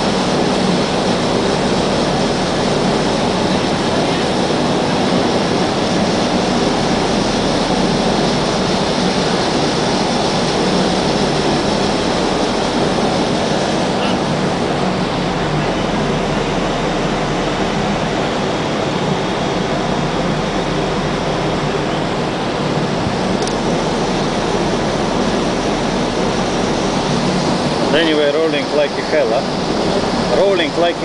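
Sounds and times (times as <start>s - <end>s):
rushing noise on ship deck: 0.0s - 31.0s.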